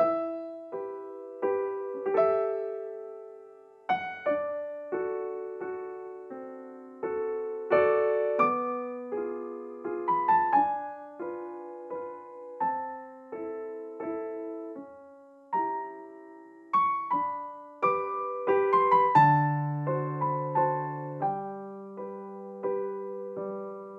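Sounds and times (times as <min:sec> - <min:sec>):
slow solo piano melody: 0:00.0 - 0:23.9.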